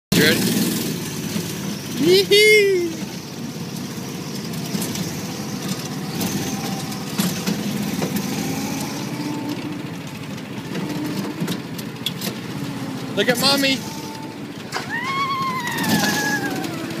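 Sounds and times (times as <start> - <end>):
go-kart engine running: 0.1 - 17.0.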